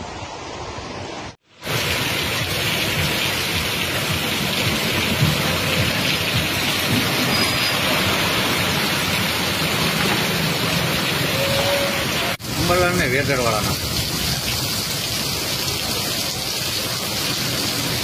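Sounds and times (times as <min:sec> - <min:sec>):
heavy rain on a street: 0:00.1 - 0:18.0.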